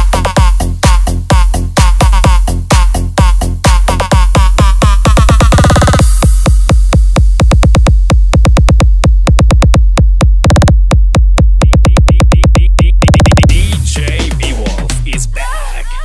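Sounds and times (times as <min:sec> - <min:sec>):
drum machine beat: 0:00.0 - 0:16.0
electronic dance music: 0:00.0 - 0:16.0
heavy bass: 0:00.0 - 0:16.0.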